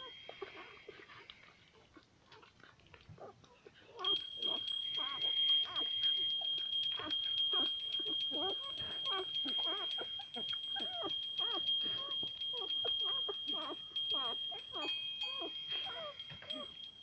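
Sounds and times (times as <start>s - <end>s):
puppies squeaking and whining: 0.0s - 17.0s.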